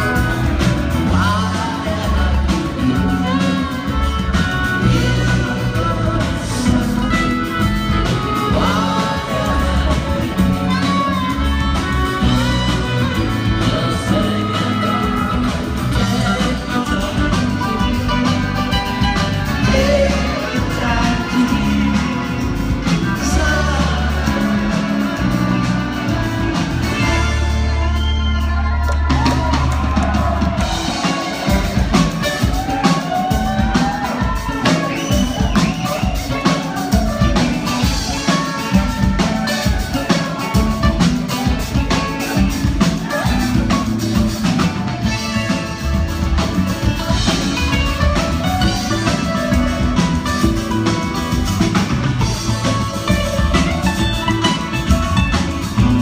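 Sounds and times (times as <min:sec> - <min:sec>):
drum kit beat: 0:00.0 - 0:56.0
live band playing: 0:00.0 - 0:56.0.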